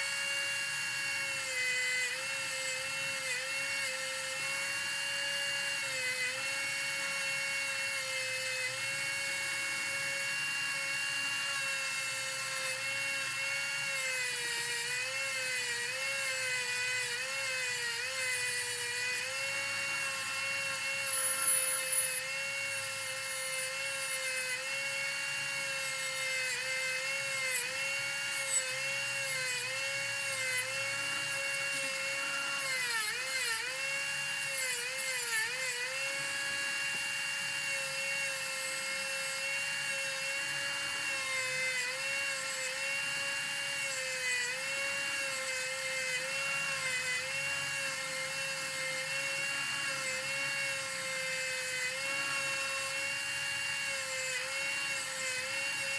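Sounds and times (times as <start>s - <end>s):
rotary tool motor whirring: 0.0s - 55.9s.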